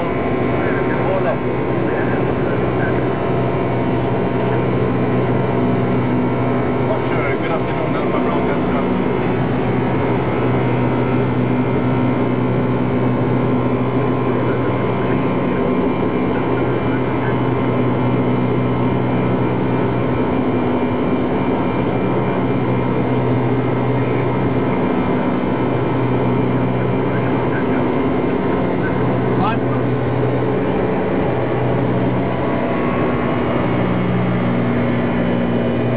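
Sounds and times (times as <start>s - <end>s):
aircraft engine and airflow noise: 0.0s - 35.9s
constant low hum: 0.0s - 35.9s.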